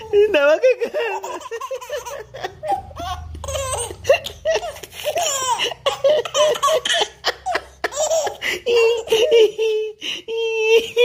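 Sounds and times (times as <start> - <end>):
baby laughing: 0.8 - 10.0.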